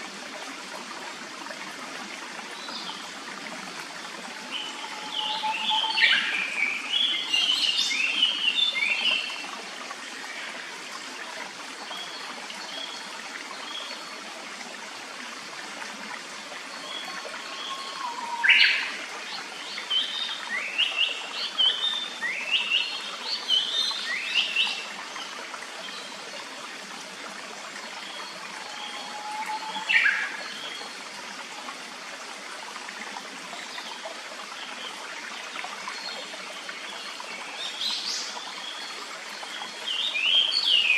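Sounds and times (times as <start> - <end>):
shallow stream running: 0.0 - 40.9.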